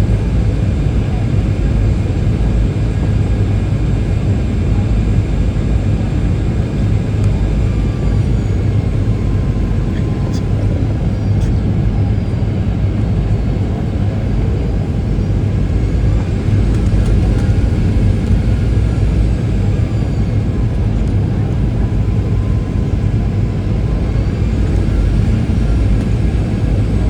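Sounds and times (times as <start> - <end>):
faint high engine whines: 0.0 - 27.0
jet engines rumbling: 0.0 - 27.0.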